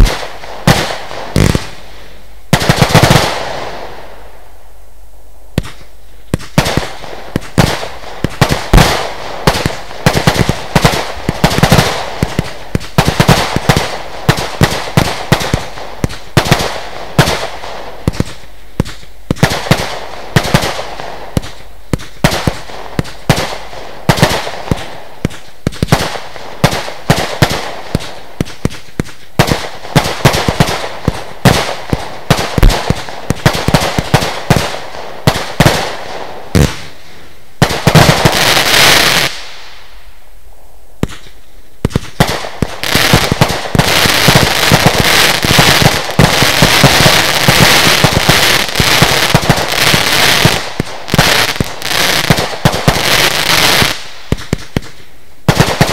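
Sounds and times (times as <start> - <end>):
fireworks launch bangs and bursts: 0.0 - 4.6, 5.5 - 55.9.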